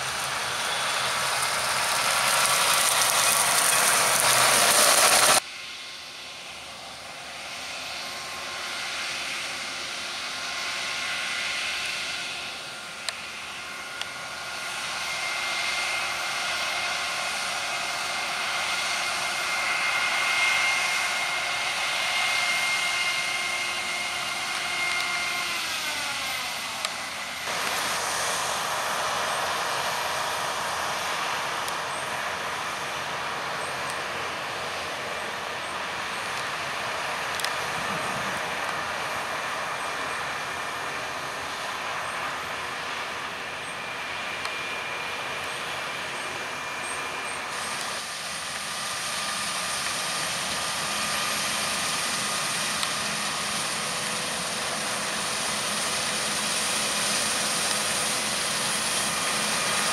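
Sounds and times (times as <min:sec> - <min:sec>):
combine harvester drone and whine: 0:00.0 - 0:59.9
combines cutting crop: 0:00.0 - 0:59.9
tractor rushing noise: 0:00.0 - 0:59.9.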